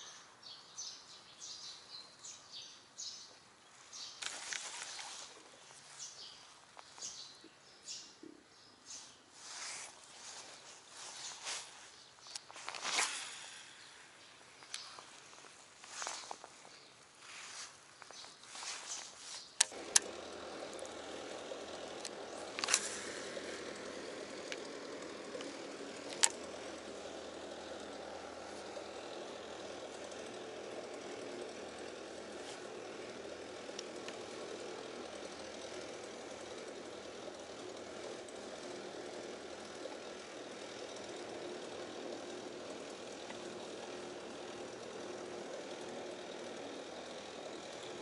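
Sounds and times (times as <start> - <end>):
distant road traffic hum: 8.9 - 48.0.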